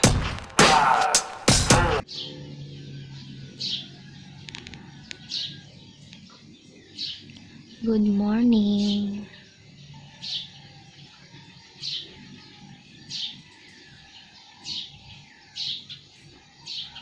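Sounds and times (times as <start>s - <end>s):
bird chirping: 2.0s - 17.0s.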